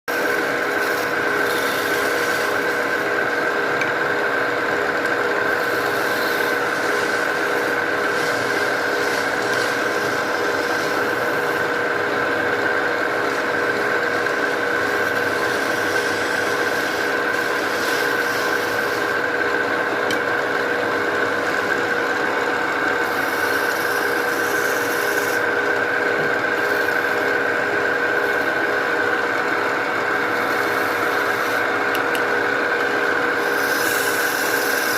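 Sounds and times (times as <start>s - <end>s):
wood grinding against power tool: 0.1s - 34.9s.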